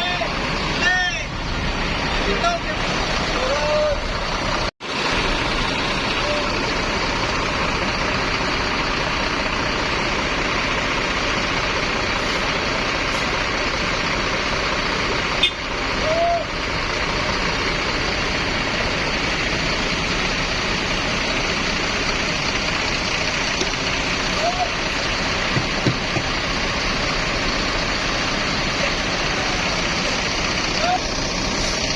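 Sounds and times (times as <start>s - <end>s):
bus or truck engine: 0.0s - 31.9s
heavy road traffic roar: 0.0s - 31.9s.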